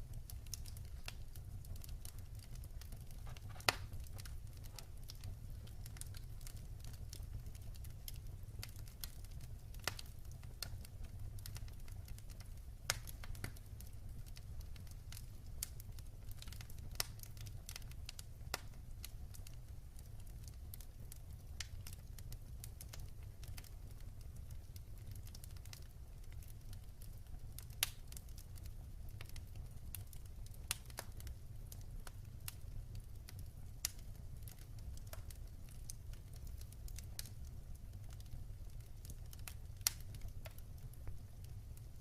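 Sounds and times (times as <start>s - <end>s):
low rumble of burning fire: 0.0s - 42.0s
wood fire crackling: 0.0s - 42.0s.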